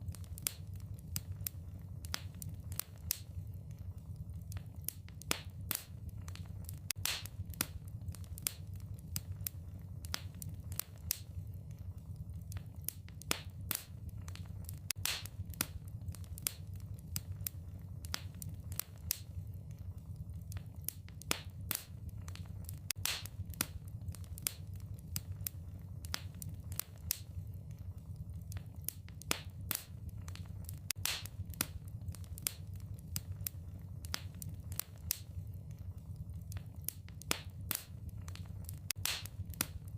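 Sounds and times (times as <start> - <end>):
steady low rumble: 0.0 - 39.9
wood fire crackling and popping: 0.0 - 39.9.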